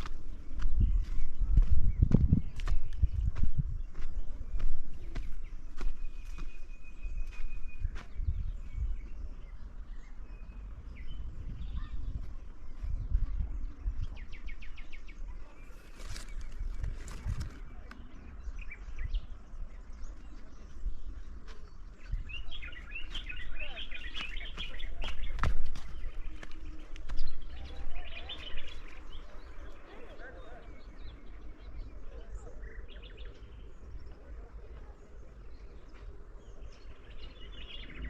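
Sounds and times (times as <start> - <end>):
birds chirping: 0.0 - 38.0
steady low rumble: 0.0 - 38.0.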